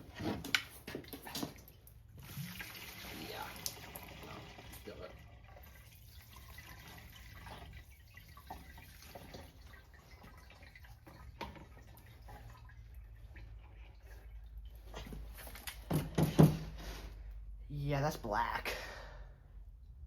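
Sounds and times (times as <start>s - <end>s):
gasoline trickling into a can: 0.0s - 17.4s.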